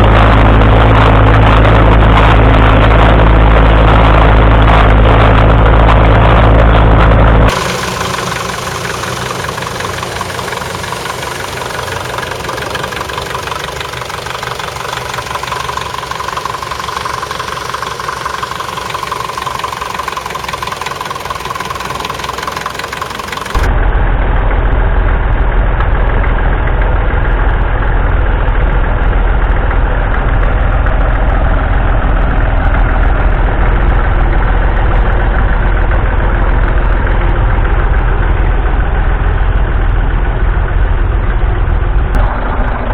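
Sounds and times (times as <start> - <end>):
deep loud engine: 0.0 - 42.9
tractor engines running: 0.0 - 42.9.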